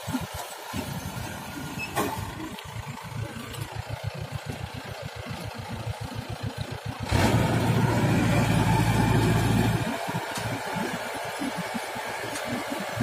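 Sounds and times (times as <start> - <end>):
combine harvester engine throbbing: 0.0 - 13.0.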